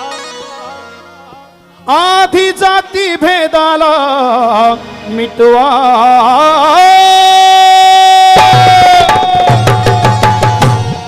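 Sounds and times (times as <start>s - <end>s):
man singing a long note: 0.0s - 9.9s.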